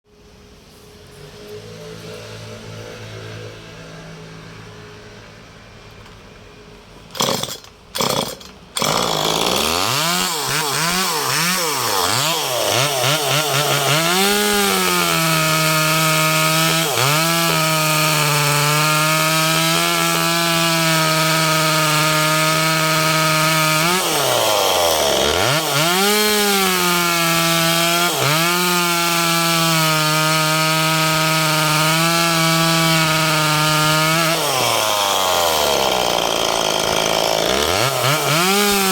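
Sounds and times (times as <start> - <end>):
chainsaw cutting wood: 7.1 - 38.9.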